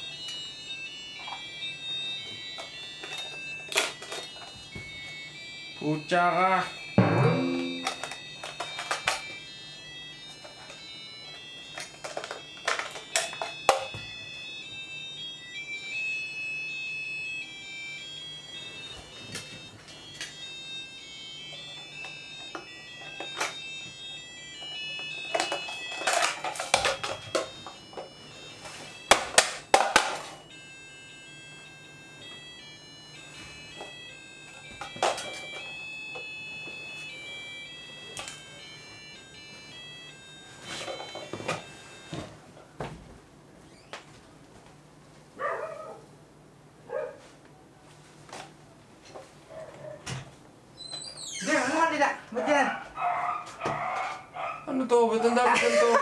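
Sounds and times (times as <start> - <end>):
alarm clocks beeping melodies: 0.0 - 42.4, 51.4 - 56.0.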